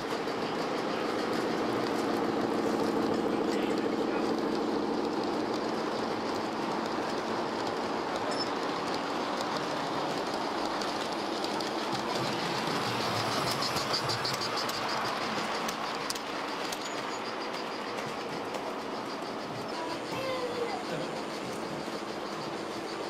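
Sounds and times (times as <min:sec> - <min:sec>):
model train rolling on track: 0:00.0 - 0:23.0
wheels clicking over rail joints: 0:00.0 - 0:23.0.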